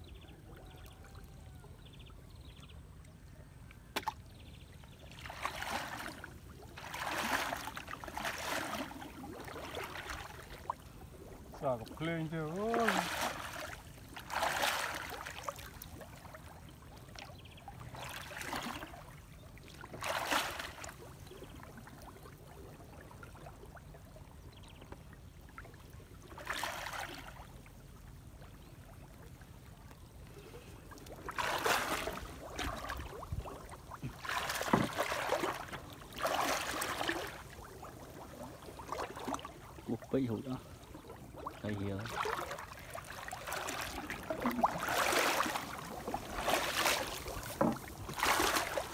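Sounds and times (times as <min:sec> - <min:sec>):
water splashing and sloshing: 0:02.8 - 0:48.9.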